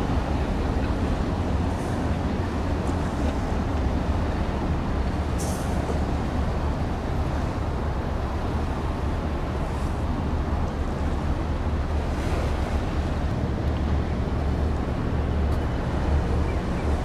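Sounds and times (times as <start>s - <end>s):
ship engine low rumble: 0.0s - 17.0s.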